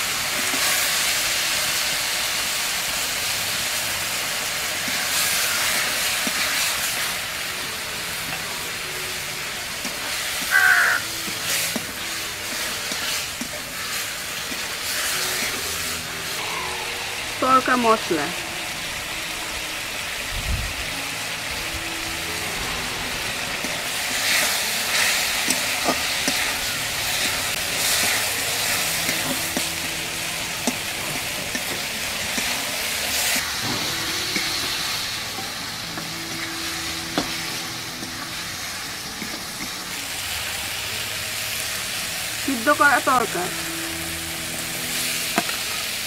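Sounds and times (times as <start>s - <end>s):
masala sizzling in oil: 0.0s - 46.0s.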